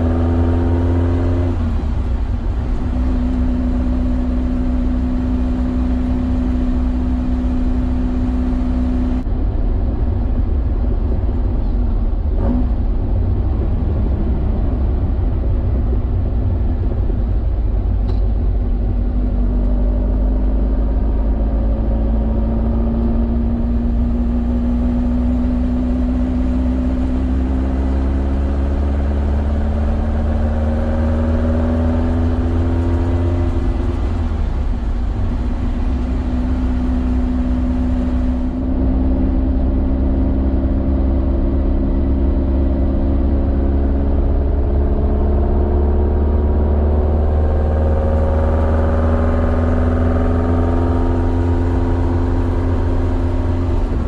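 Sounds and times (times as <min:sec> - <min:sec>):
car engine heard from cabin: 0:00.0 - 0:54.0.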